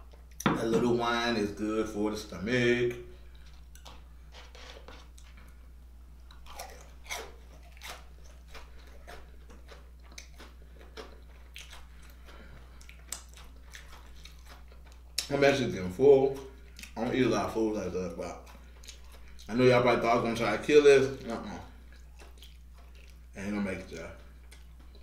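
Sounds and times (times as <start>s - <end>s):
man chewing food: 0.0s - 0.4s, 3.2s - 19.6s, 21.2s - 25.0s
steady low hum: 0.0s - 25.0s.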